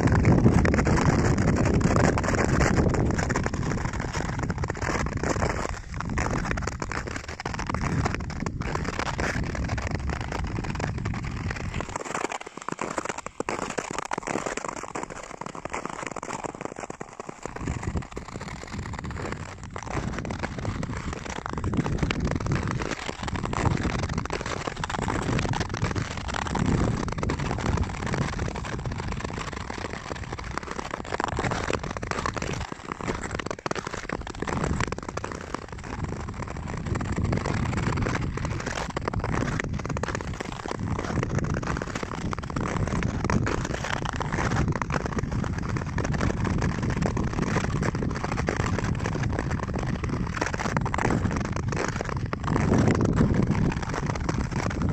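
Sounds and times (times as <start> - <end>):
wind rumble on microphone: 0.0 - 12.1, 17.4 - 54.9
skate blades scraping on ice: 0.0 - 54.9.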